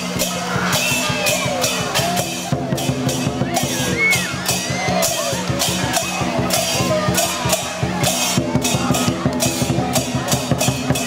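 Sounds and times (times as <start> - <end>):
cymbals clashing: 0.0 - 11.0
drum beating fast: 0.0 - 11.0.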